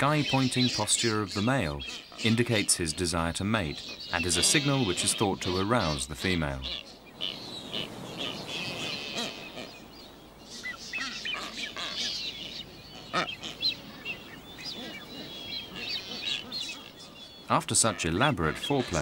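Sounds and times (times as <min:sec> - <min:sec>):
birds whistling and chirping: 0:00.0 - 0:19.0.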